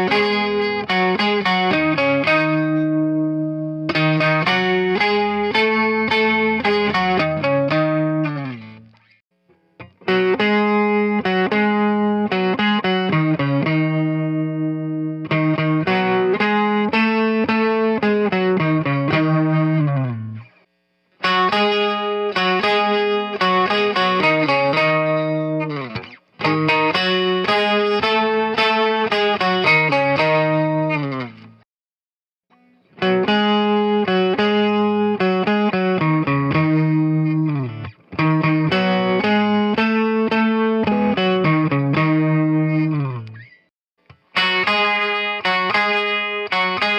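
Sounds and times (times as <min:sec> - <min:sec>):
electric twelve-string guitar: 0:00.0 - 0:31.6, 0:32.5 - 0:46.9.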